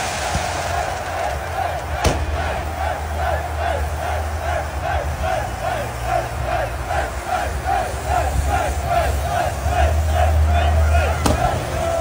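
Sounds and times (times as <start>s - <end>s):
stadium crowd noise: 0.0s - 12.0s.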